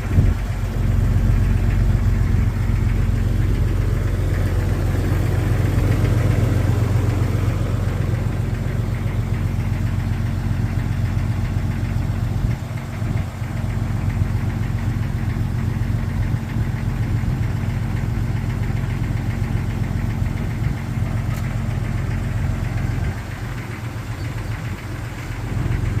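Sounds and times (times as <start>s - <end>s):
car engine idling: 0.0s - 26.0s
engine knocking rattle: 0.0s - 26.0s.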